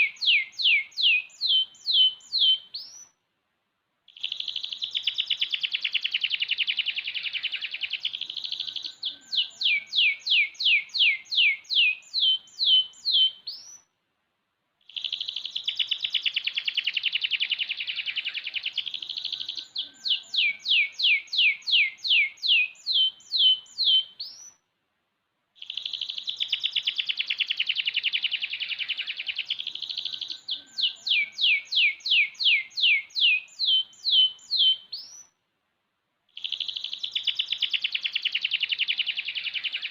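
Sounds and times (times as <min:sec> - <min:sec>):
canary singing: 0:00.0 - 0:03.2, 0:04.1 - 0:13.9, 0:14.9 - 0:24.6, 0:25.6 - 0:35.4, 0:36.3 - 0:39.9.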